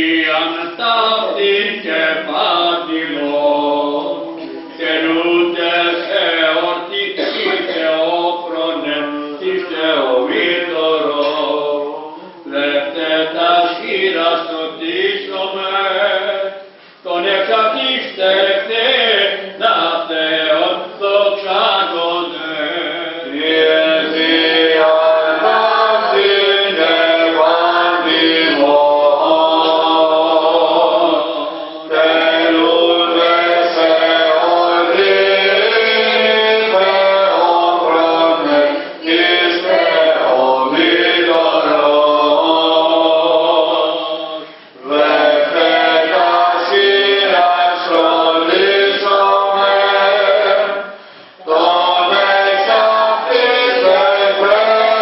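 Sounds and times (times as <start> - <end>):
chanted hymn with long held notes: 0.0 - 55.0.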